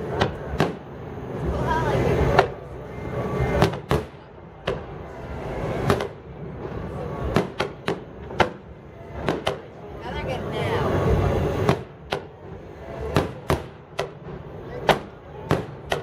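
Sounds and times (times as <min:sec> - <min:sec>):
fireworks bursting: 0:00.0 - 0:01.5, 0:03.3 - 0:10.0, 0:10.8 - 0:16.0.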